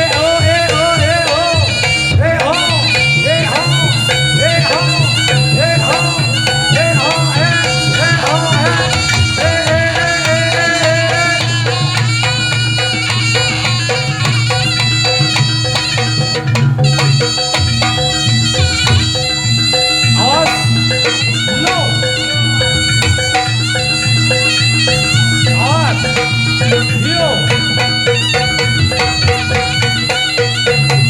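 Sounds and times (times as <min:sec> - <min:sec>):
percussion: 0:00.0 - 0:31.0
reedy wind instrument melody: 0:00.0 - 0:31.0.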